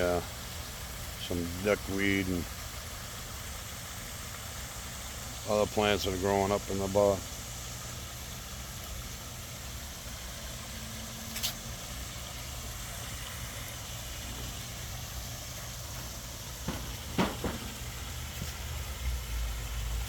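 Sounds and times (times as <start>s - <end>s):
waterfall splashing: 0.0s - 20.0s.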